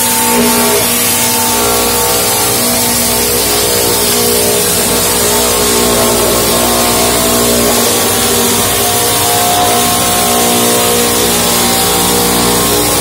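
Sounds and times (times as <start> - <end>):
sawmill sawing a log: 0.0 - 13.0.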